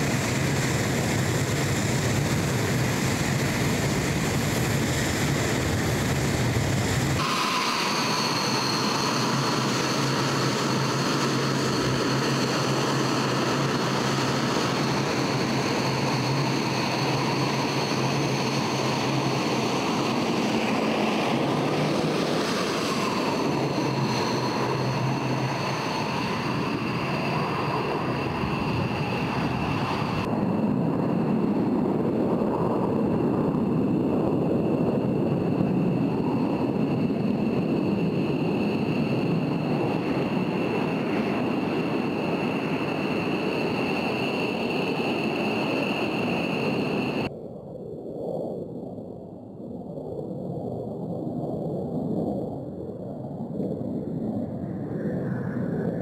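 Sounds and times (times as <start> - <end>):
jet afterburner roar: 0.0 - 47.3
jet engine whine and rumble: 0.0 - 56.0.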